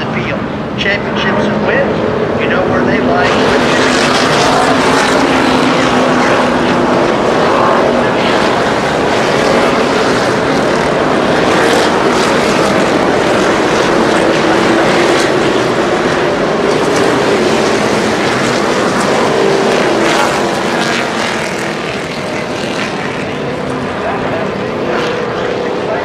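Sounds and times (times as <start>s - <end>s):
race cars passing: 0.0s - 26.0s.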